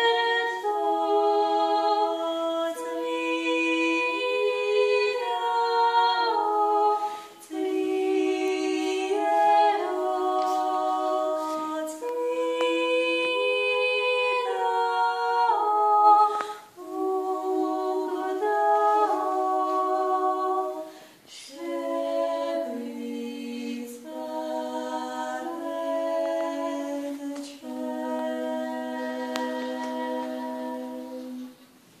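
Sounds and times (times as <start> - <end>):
women singing chant in harmony: 0.0 - 31.7.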